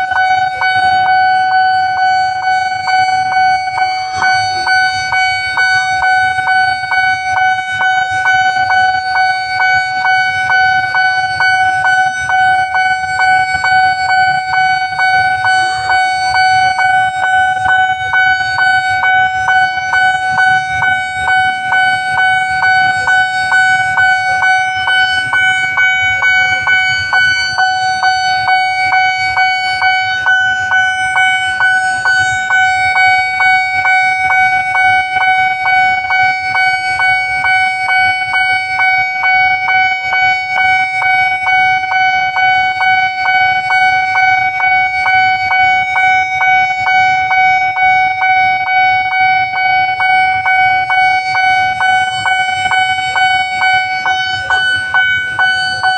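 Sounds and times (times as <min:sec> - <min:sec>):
pulsing level-crossing alarm: 0:00.0 - 0:55.9.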